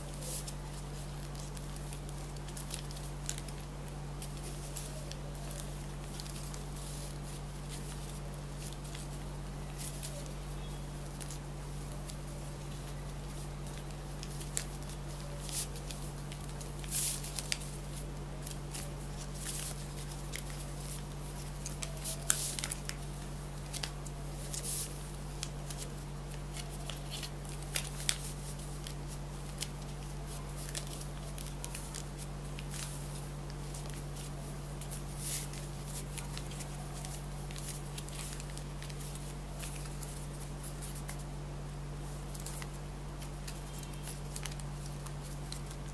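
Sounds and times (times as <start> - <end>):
paper rustling and crackling: 0.0 - 41.4, 42.0 - 45.9
steady low hum: 0.0 - 45.9.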